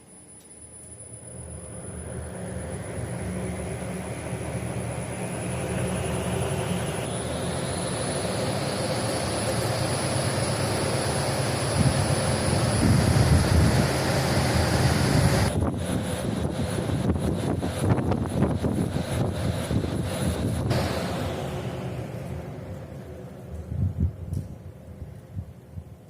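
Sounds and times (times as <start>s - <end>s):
radiator cooling fan spinning: 0.1s - 26.0s.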